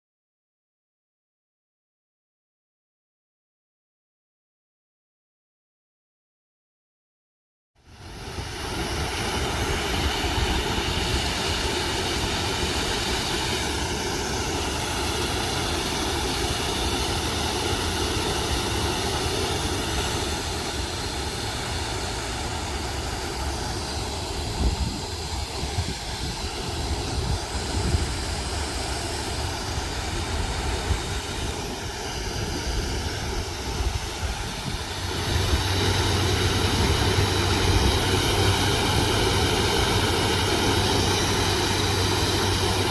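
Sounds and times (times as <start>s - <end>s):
waterfall splashing into pond: 7.8s - 42.9s.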